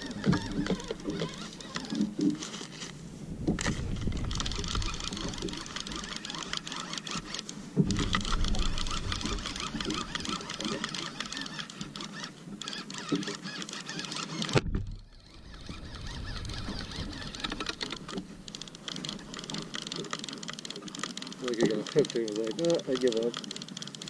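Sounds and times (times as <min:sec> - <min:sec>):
fishing reel clicking whir: 0:00.0 - 0:03.0, 0:03.6 - 0:24.0
water sloshing against hull: 0:00.0 - 0:24.0.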